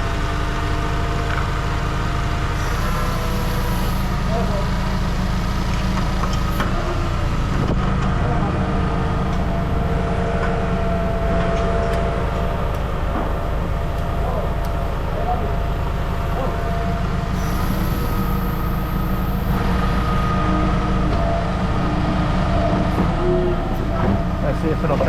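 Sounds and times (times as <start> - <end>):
low mechanical drone: 0.0 - 25.0
steady tones: 2.6 - 25.0.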